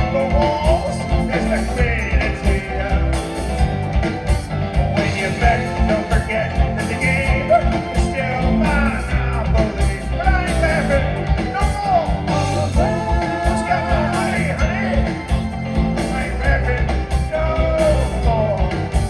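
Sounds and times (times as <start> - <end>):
live rock band playing: 0.0 - 19.0
sliding lead melody: 0.0 - 19.0.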